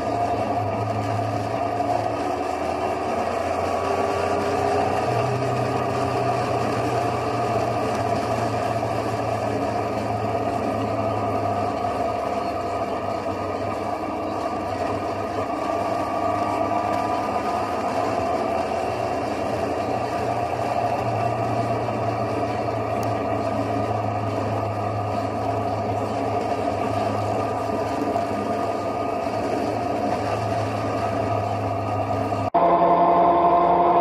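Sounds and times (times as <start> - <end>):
motorcycle engine cruising: 0.0 - 34.0.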